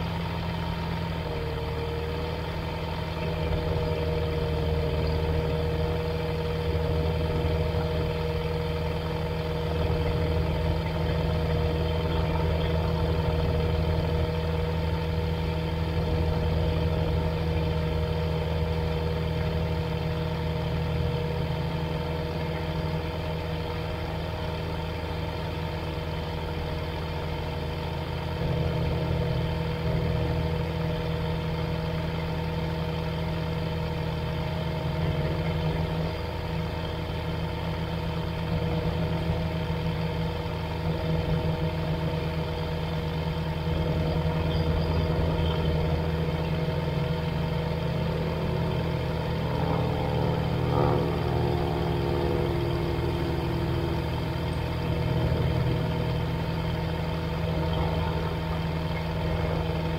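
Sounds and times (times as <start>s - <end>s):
aircraft engine idling: 0.0s - 59.9s.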